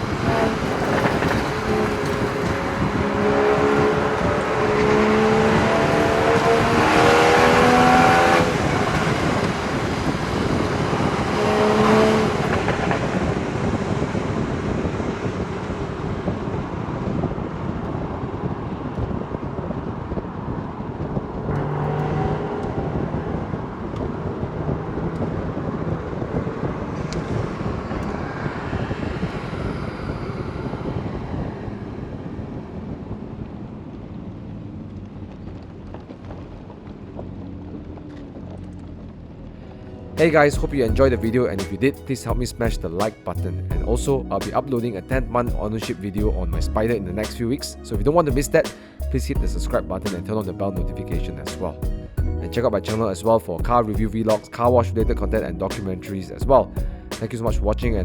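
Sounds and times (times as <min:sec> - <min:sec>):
car engine accelerating: 0:00.0 - 0:58.0
wind and road noise: 0:00.0 - 0:58.0.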